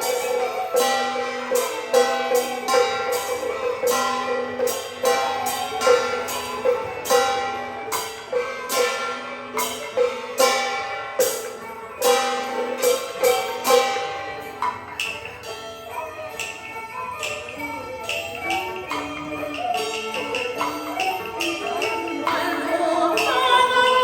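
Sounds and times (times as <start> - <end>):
cymbals and gongs striking: 0.0 - 24.0
held melodic instrument: 0.0 - 24.0.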